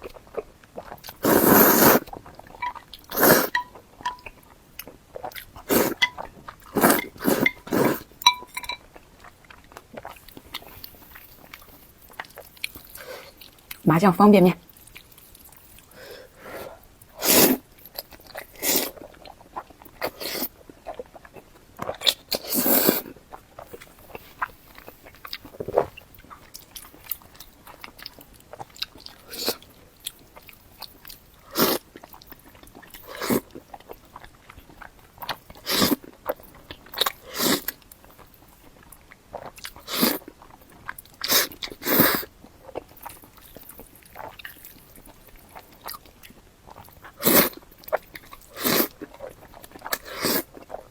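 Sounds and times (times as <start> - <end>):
biting and chewing noodles: 0.0 - 13.8, 17.0 - 50.9.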